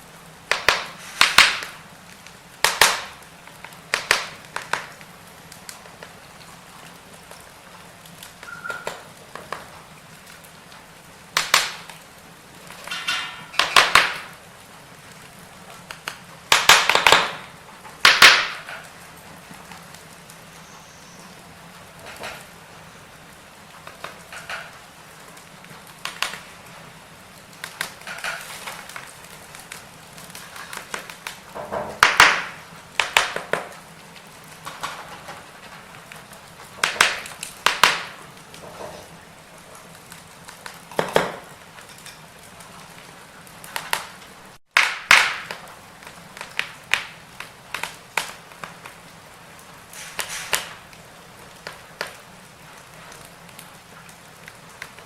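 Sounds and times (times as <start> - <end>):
fire crackling and popping: 0.0 - 55.0
low steady fire hiss: 0.0 - 55.0.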